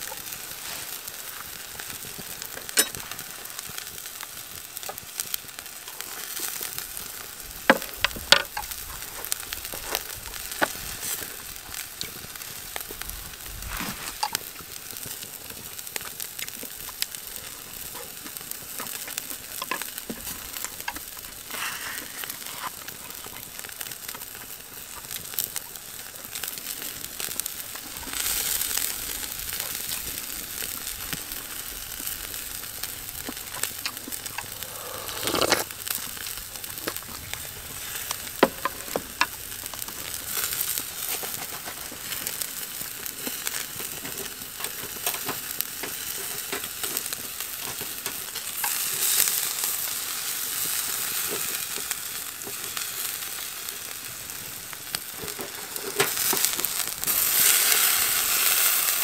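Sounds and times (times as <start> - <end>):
food sizzling on a grill: 0.0 - 59.0.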